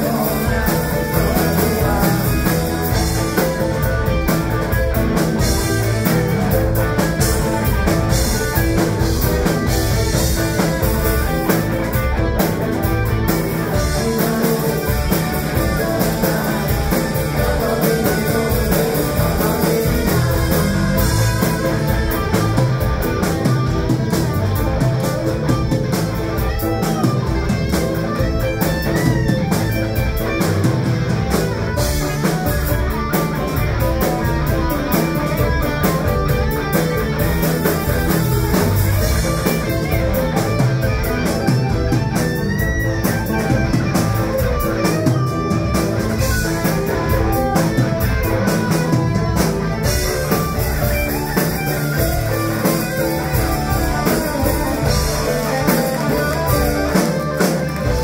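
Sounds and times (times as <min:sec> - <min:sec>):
bass guitar: 0:00.0 - 0:58.0
drum kit: 0:00.0 - 0:58.0
electric guitar: 0:00.0 - 0:58.0
keyboards: 0:00.0 - 0:58.0.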